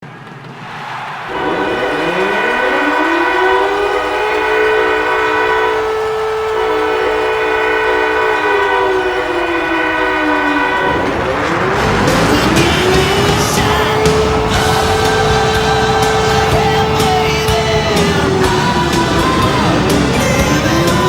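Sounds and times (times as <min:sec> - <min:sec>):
loud rushing roar: 0:00.8 - 0:21.0
warning siren winding: 0:01.4 - 0:21.0.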